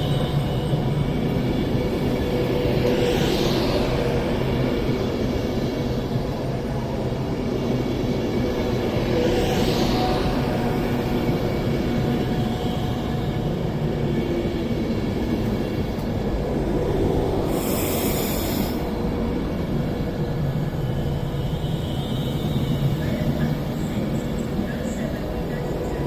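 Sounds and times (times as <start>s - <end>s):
electric train low rumble: 0.0s - 26.0s.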